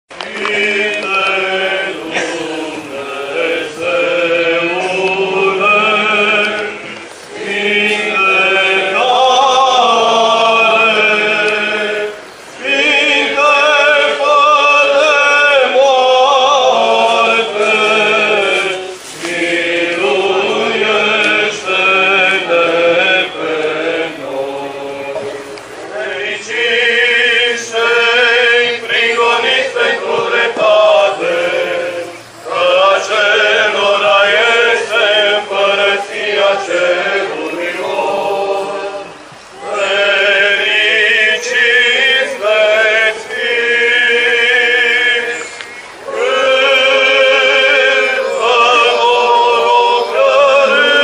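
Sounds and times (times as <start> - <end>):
choir chanting: 0.1 - 51.0.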